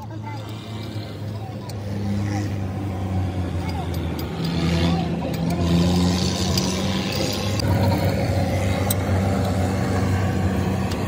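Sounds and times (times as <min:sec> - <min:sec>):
low engine hum: 0:00.0 - 0:11.0
noisy wash: 0:00.2 - 0:11.0.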